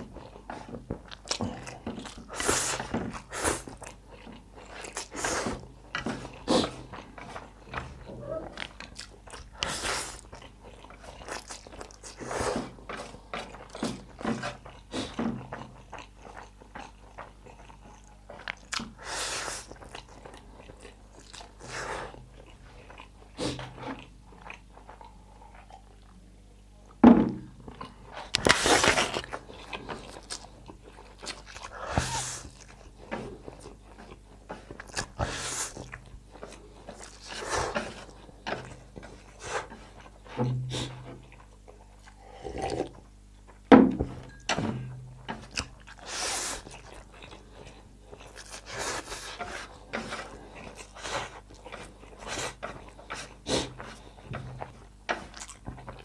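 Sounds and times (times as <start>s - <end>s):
wet chewing: 0.0s - 26.2s, 27.5s - 43.6s, 45.1s - 56.0s.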